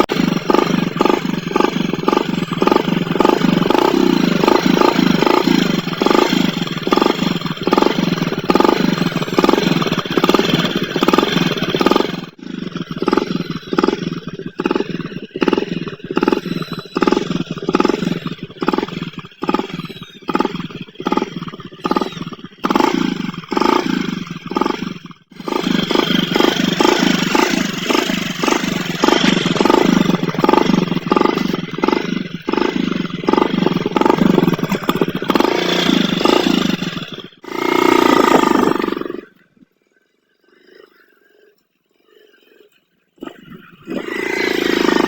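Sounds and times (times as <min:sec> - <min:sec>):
motorcycle engine revving: 0:00.0 - 0:39.6, 0:42.1 - 0:45.0.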